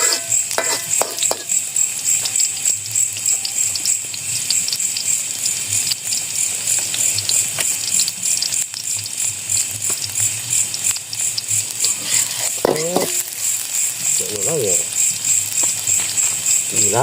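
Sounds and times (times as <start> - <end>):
night insects chirping: 0.0 - 17.0
small crackles and clicks: 0.3 - 17.0.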